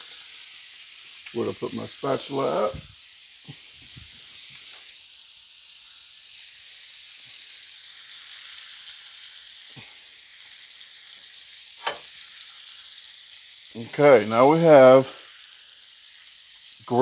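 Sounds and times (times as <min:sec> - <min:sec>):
cheese and butter sizzling in pan: 0:00.0 - 0:17.0.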